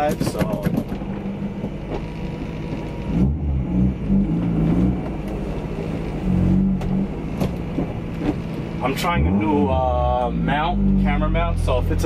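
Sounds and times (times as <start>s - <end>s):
car engine idling high: 0.0s - 12.0s.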